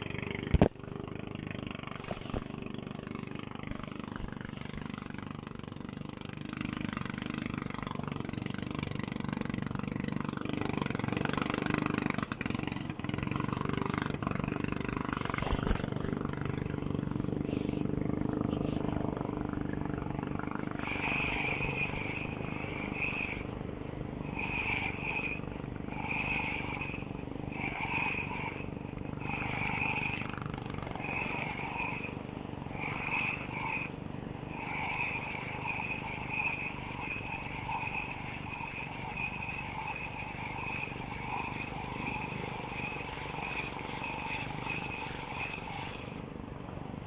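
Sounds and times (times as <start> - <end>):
fishing reel cranking: 0.0 - 46.4.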